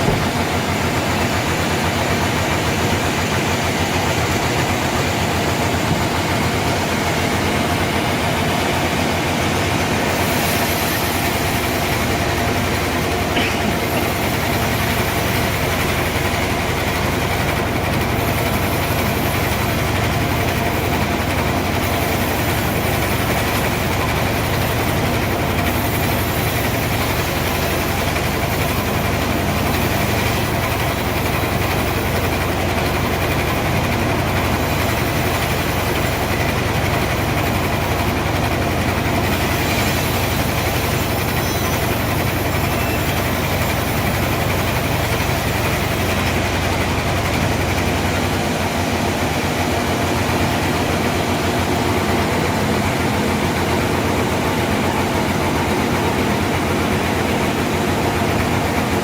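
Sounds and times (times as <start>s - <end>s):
sawmill motor humming: 0.0s - 59.0s.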